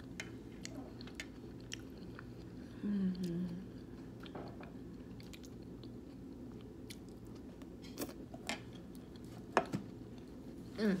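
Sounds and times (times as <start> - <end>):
person chewing food: 0.0 - 10.6.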